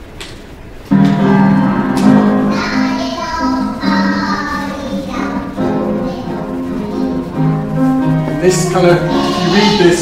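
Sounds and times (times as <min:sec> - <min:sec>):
children's choir singing: 0:00.9 - 0:10.0
piano accompaniment: 0:00.9 - 0:10.0.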